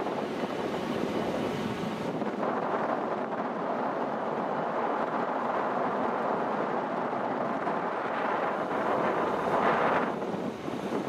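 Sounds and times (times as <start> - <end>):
wind buffeting microphone: 0.0 - 11.0
wind rushing: 0.0 - 11.0.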